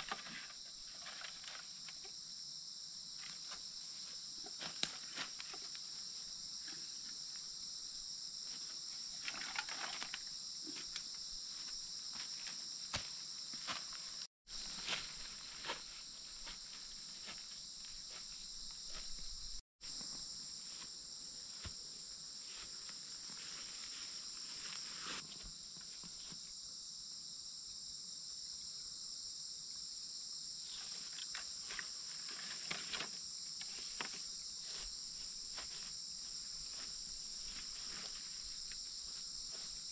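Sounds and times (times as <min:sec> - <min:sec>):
footsteps and rustling vegetation: 0:00.0 - 0:02.2, 0:03.0 - 0:26.5, 0:30.6 - 0:39.9
insects chorus: 0:00.0 - 0:39.9.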